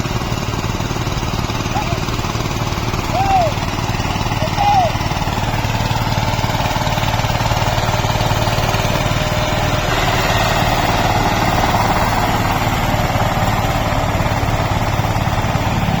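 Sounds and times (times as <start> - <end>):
diesel tractor engine chugging: 0.0 - 16.0.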